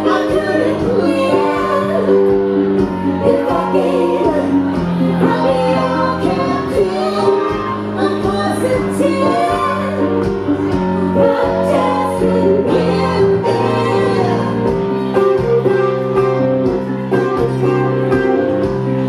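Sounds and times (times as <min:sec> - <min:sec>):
woman singing: 0:00.0 - 0:18.7
electronic keyboard notes: 0:00.0 - 0:19.0.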